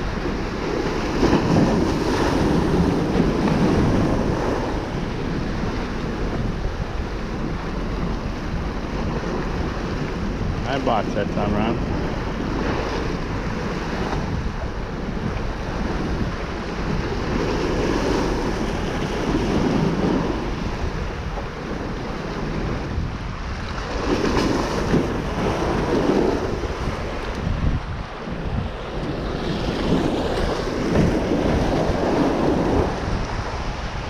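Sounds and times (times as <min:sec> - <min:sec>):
sea waves against rocks: 0:00.0 - 0:34.0
wind buffeting microphone: 0:00.0 - 0:34.0.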